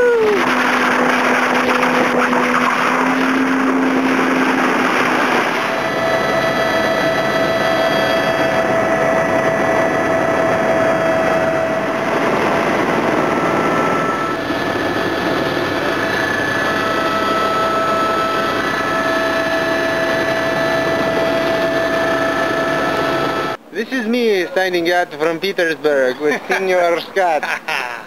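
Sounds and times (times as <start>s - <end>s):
helicopter engine whine: 0.0s - 23.8s
rotor and air noise: 0.0s - 28.0s.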